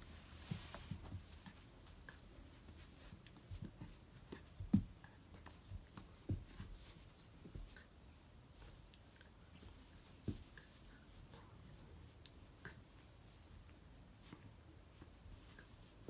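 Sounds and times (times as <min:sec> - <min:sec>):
paws thudding and scuffling on carpet: 0:00.0 - 0:16.0.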